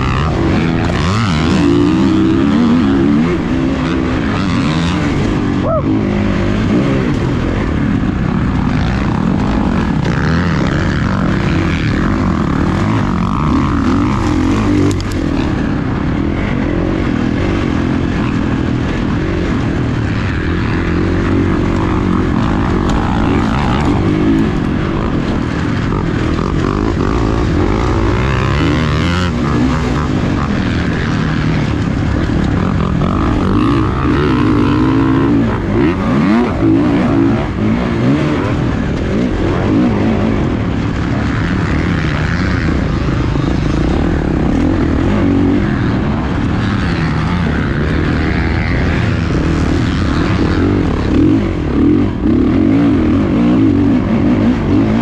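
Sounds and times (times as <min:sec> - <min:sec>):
dirt bike engine revving: 0:00.0 - 0:55.0
wind noise: 0:00.0 - 0:55.0.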